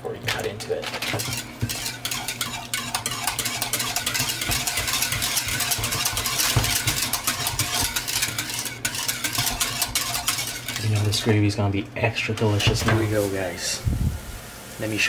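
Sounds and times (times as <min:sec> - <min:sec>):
whisk scraping metal pan: 0:00.2 - 0:13.8.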